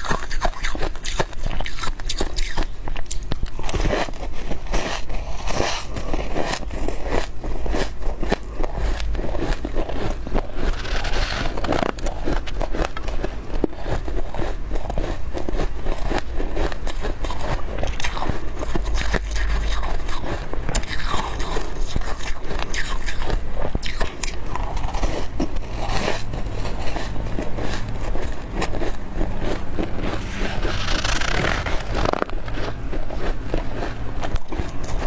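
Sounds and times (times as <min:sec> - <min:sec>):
chewing crunchy frost: 0:00.0 - 0:35.0.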